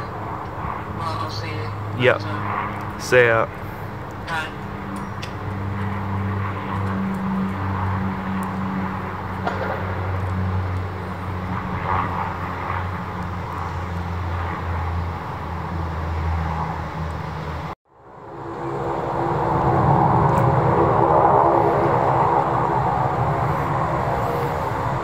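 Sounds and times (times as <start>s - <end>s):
jet airliner engine noise: 0.0s - 25.0s
turboprop engines humming: 0.0s - 25.0s.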